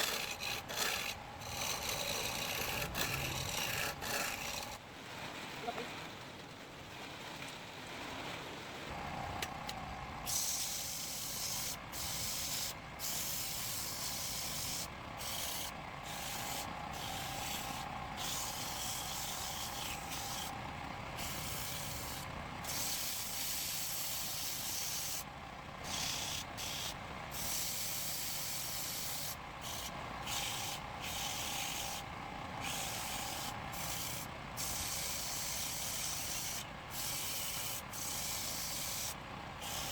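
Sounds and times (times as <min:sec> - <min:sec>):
faint lathe whine: 0:00.0 - 0:04.8, 0:08.9 - 0:39.9
tool hissing on spinning lathe workpiece: 0:00.0 - 0:04.8, 0:10.2 - 0:39.9.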